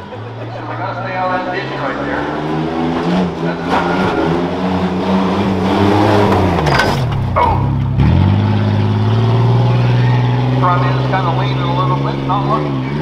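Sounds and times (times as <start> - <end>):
pickup truck engine revving: 0.0 - 13.0.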